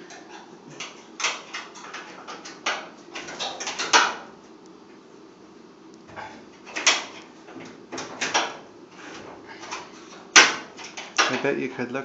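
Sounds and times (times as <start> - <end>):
washing machine parts knocking and scraping: 0.0 - 4.3, 6.1 - 11.6.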